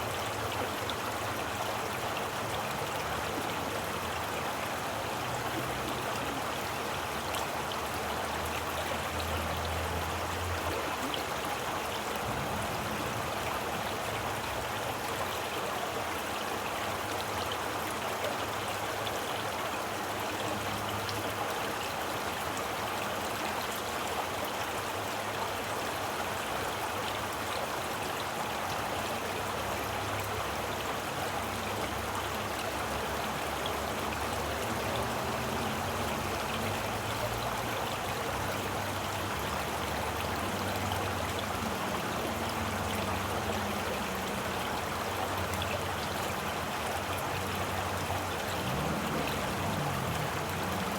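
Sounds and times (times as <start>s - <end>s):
stream flowing: 0.0s - 50.9s.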